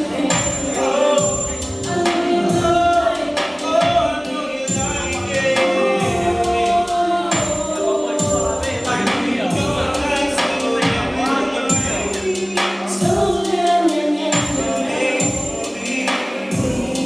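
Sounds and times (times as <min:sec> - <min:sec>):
person singing: 0:00.0 - 0:17.0
slow r and b backing track: 0:00.0 - 0:17.0.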